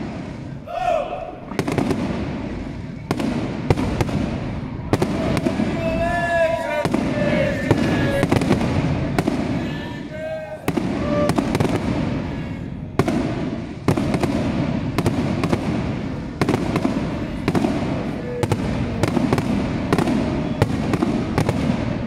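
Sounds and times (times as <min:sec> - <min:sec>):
firework crackle and rumble: 0:00.0 - 0:22.0
firework shells bursting: 0:01.3 - 0:09.9, 0:10.6 - 0:22.0.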